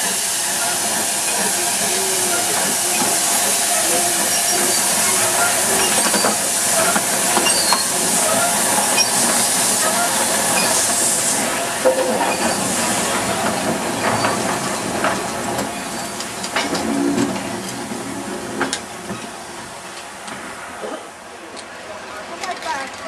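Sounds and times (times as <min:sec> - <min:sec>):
steam locomotive hissing: 0:00.0 - 0:20.9
train coach rolling by: 0:00.0 - 0:23.0.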